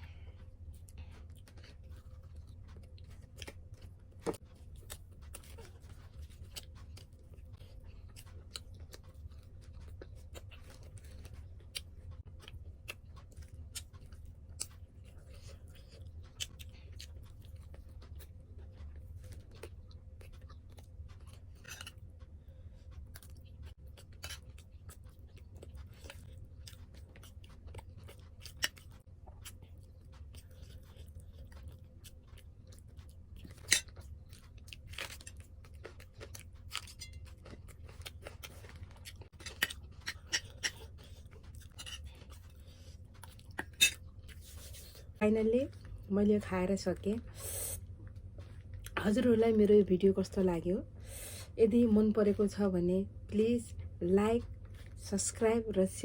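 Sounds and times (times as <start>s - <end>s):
person chewing and mouth sounds: 0.0s - 46.1s
steady low hum: 0.0s - 56.0s.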